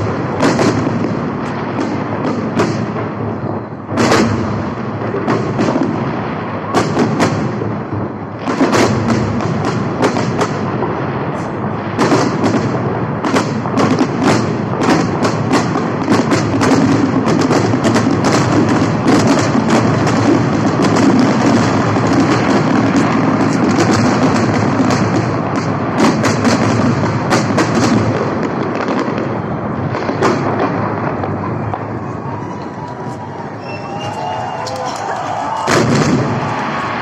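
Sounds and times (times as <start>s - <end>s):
fireworks bangs and pops: 0.0s - 37.0s.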